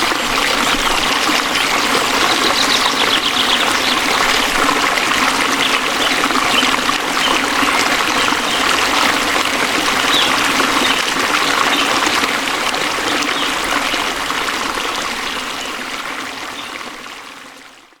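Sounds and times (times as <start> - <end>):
waterfall rushing and splashing: 0.0 - 17.3.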